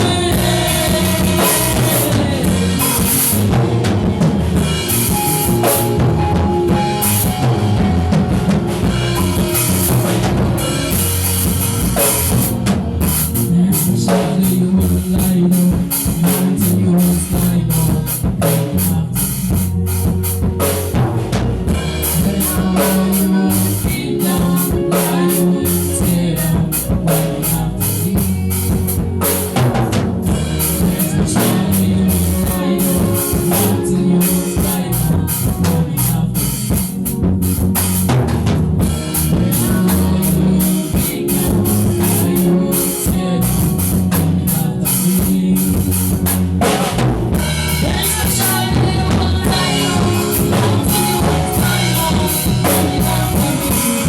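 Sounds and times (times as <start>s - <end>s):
sustained chords: 0.0s - 18.3s, 19.2s - 54.0s
bass line: 0.0s - 54.0s
drum kit beat: 0.0s - 54.0s.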